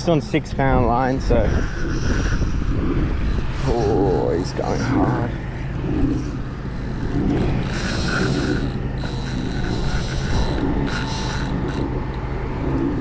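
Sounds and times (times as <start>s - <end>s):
fishing reel drag buzzing: 0.1s - 13.0s.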